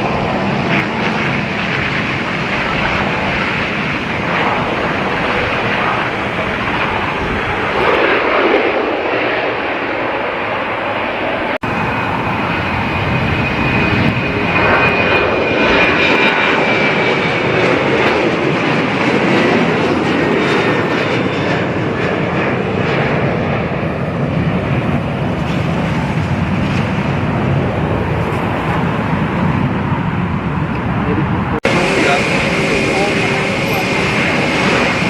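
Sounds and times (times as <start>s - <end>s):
jet engines roaring with whine: 0.0s - 35.0s.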